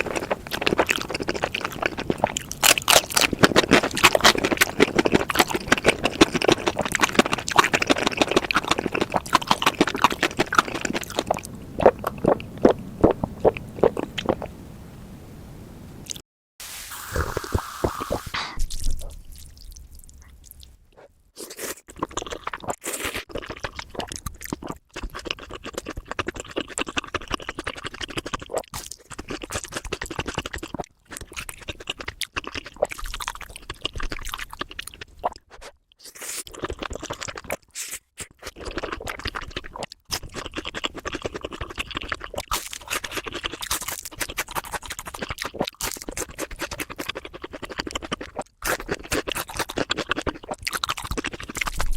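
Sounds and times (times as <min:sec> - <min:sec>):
crunching and wet chewing: 0:00.0 - 0:14.6, 0:17.5 - 0:51.9.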